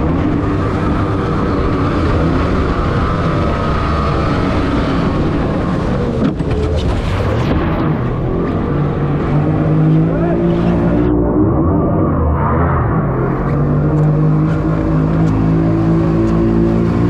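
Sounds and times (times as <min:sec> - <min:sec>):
outboard motor high-revving drone: 0:00.0 - 0:17.0.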